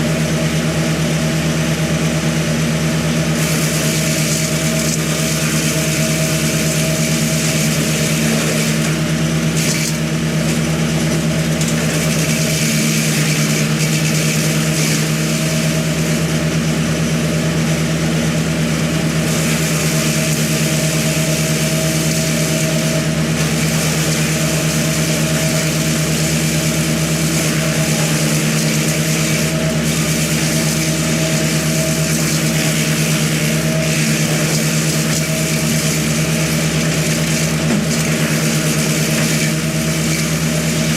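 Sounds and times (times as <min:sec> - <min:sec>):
engine running at high speed: 0:00.0 - 0:40.9.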